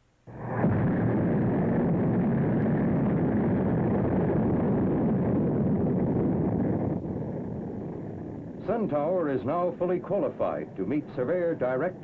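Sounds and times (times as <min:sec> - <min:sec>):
rocket engines roaring: 0:00.3 - 0:12.0.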